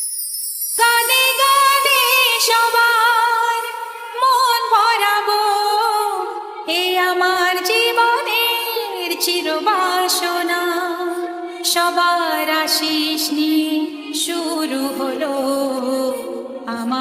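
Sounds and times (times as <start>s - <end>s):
woman singing with vibrato: 0.8s - 17.0s.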